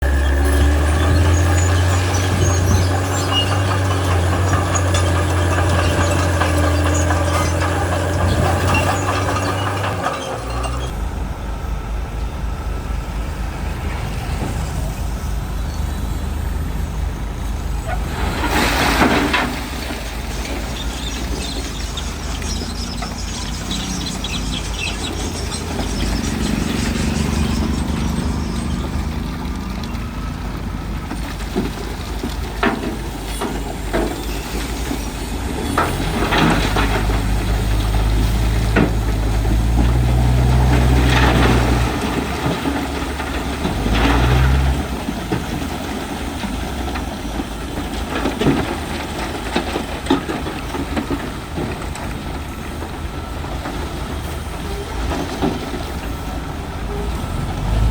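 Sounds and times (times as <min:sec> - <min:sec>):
diesel earthmoving machinery running: 0:00.0 - 0:57.9.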